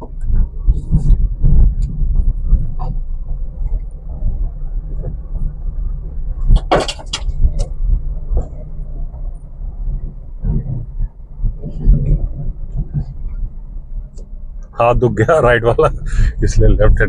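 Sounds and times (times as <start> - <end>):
car engine low rumble: 0.0 - 17.0
harsh scraping clatter: 0.0 - 17.0.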